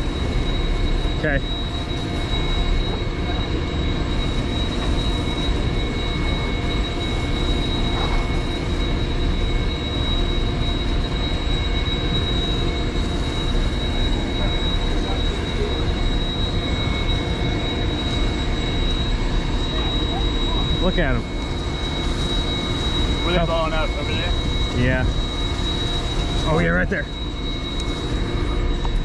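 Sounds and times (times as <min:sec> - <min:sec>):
high-pitched whine: 0:00.0 - 0:29.0.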